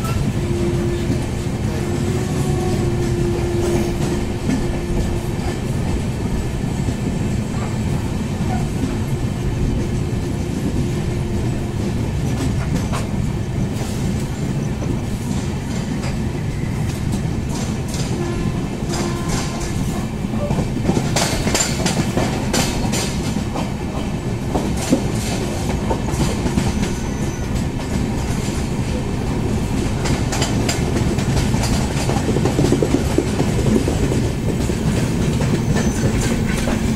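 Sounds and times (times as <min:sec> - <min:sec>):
clickety-clack over rail joints: 0:00.0 - 0:36.9
sharp train clattering: 0:00.0 - 0:36.9
train wheels rumbling on rails: 0:00.0 - 0:36.9.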